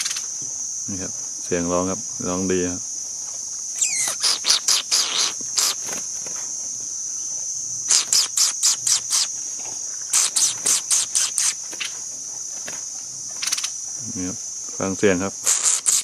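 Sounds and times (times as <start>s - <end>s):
high drone of insects: 0.0s - 16.0s
songbird chirping: 0.0s - 16.0s.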